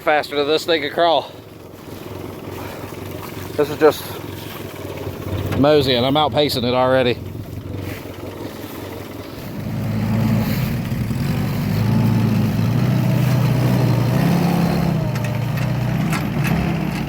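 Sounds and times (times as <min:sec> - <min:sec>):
jeep engine running: 0:00.0 - 0:17.0.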